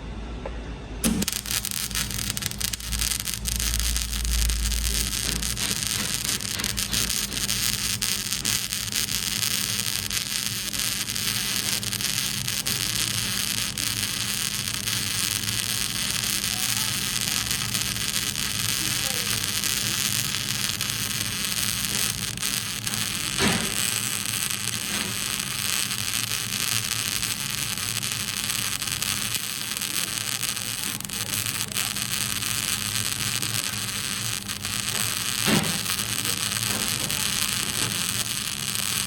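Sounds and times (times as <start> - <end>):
low electrical hum: 0.0 - 39.0
arc welding crackling hiss: 1.0 - 39.0.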